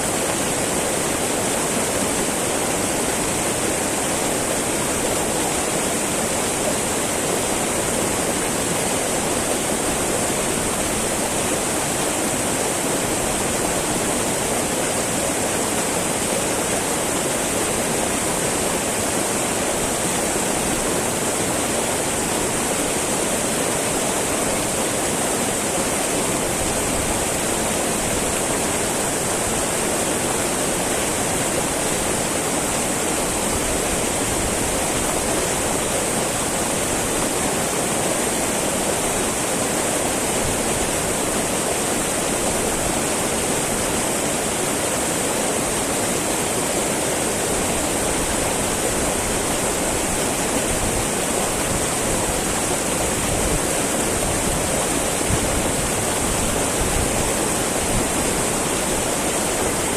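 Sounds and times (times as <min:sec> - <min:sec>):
river babbling over rocks: 0:00.0 - 0:59.9.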